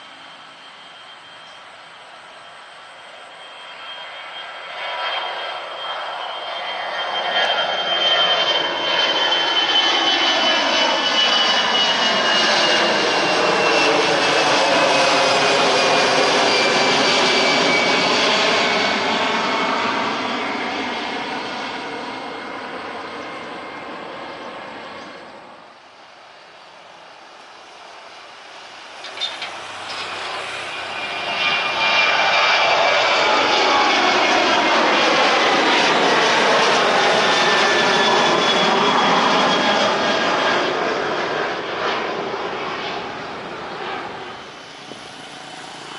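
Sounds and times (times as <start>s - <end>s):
jet airliner engine roar: 0.0s - 45.9s.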